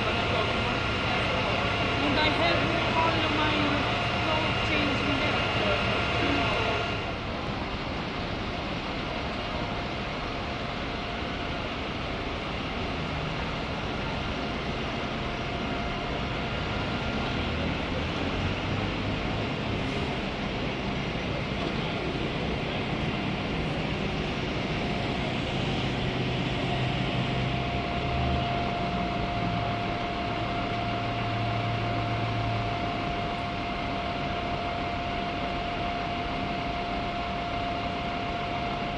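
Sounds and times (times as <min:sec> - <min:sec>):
thin steady whine: 0:00.0 - 0:38.9
traffic engine noise: 0:00.0 - 0:38.9.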